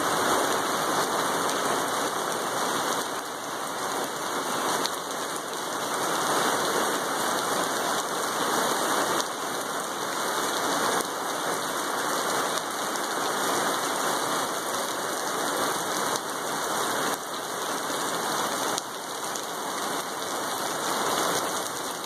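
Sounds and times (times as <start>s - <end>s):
heavy rain on pavement: 0.0s - 22.0s.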